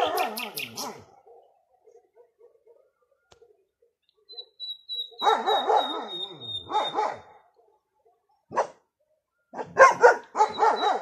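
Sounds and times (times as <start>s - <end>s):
dog barking: 0.0s - 3.9s, 5.1s - 11.0s.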